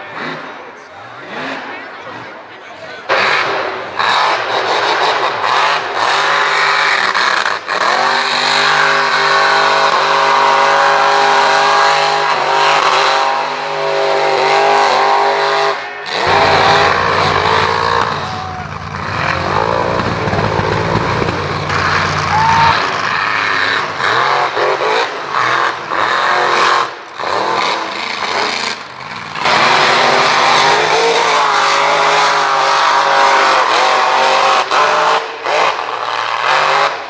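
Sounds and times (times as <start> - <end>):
truck engine revving: 0.0 - 2.4, 3.0 - 37.0.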